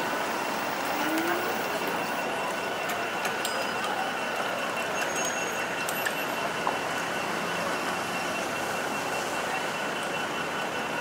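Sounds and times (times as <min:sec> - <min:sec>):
traffic: 0:00.0 - 0:11.0.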